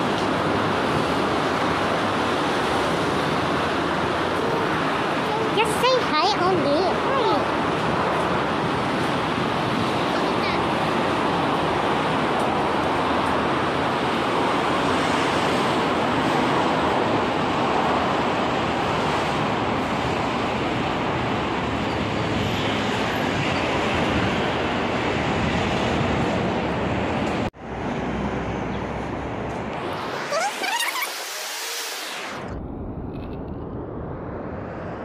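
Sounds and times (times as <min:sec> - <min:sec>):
street traffic noise: 0:00.0 - 0:33.6.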